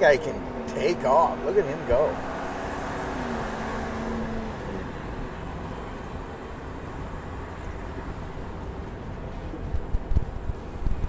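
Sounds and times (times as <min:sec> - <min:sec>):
tyre road noise: 0:00.0 - 0:11.0.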